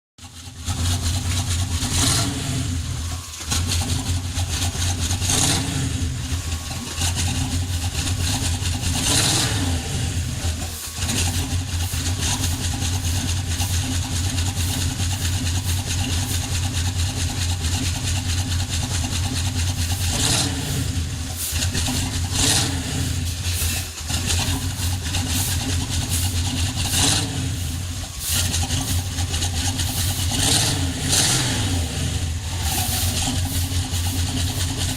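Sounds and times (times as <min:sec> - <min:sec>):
car engine idling: 0:00.2 - 0:34.9
engine throttle blips: 0:00.2 - 0:34.9.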